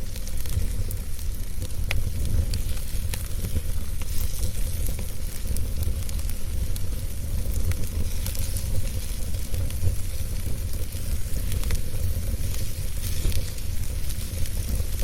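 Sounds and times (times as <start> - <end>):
fire crackling and roaring: 0.0 - 15.0
wood fire pops: 0.0 - 15.0.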